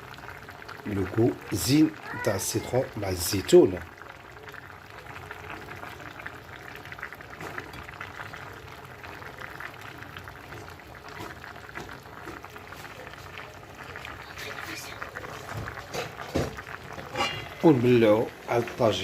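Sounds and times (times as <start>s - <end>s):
sauce bubbling and crackling: 0.0s - 19.0s.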